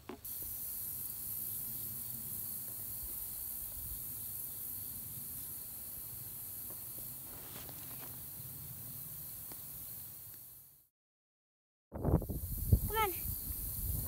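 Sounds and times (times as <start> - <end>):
high-pitched outdoor hiss: 0.0 - 10.9, 12.0 - 14.0.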